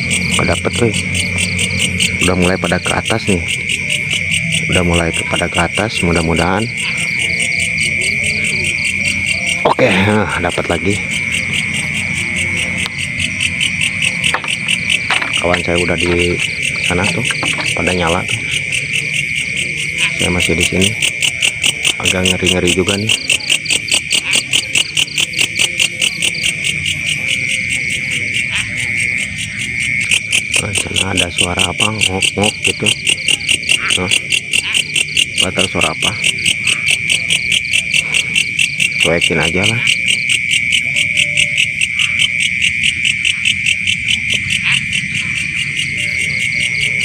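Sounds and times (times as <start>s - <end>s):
crickets chirping: 0.0s - 47.0s
steady high insect buzz: 0.0s - 47.0s.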